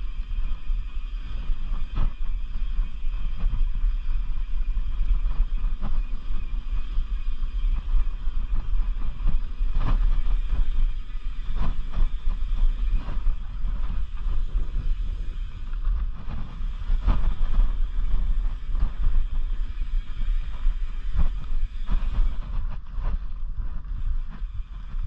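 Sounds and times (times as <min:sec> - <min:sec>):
tyres rolling on dirt trail: 0:00.0 - 0:25.0
wind buffeting microphone: 0:00.0 - 0:25.0.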